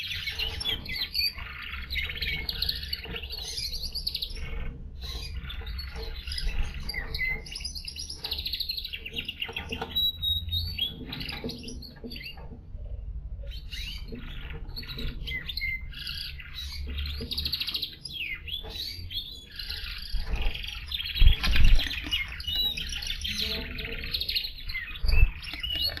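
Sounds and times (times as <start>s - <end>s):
canaries singing: 0.0s - 26.0s.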